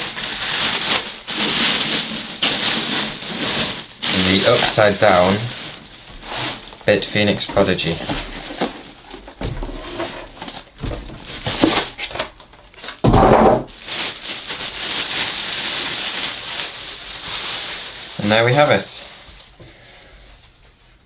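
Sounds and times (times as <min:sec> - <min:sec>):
plastic bag rustling: 0:00.0 - 0:20.8.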